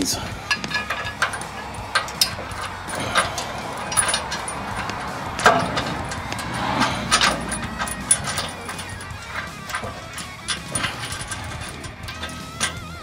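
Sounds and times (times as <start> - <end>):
metallic clicks and clinks: 0.4 - 13.0.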